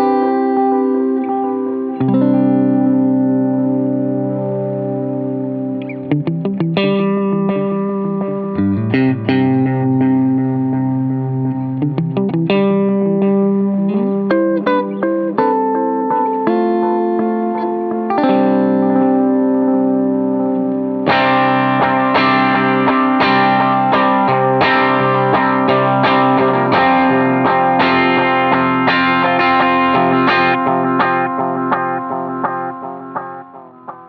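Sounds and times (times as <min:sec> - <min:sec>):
electric guitar with delay: 0:00.0 - 0:34.0.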